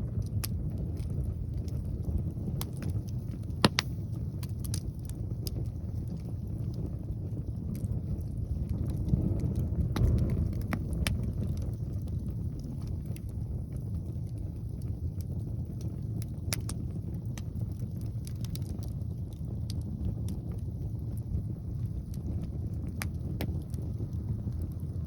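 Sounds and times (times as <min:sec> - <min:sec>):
wind buffeting microphone: 0:00.0 - 0:25.0
wood fire popping and crackling: 0:00.0 - 0:25.0.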